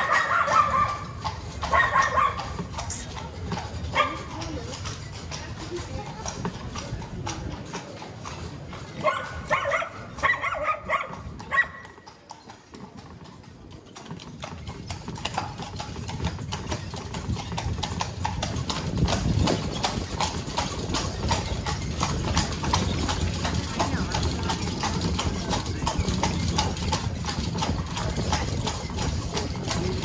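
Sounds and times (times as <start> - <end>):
carriage wheels rumbling on stones: 0.0 - 10.3, 11.1 - 30.0
hooves clip-clopping on cobblestones: 0.0 - 30.0.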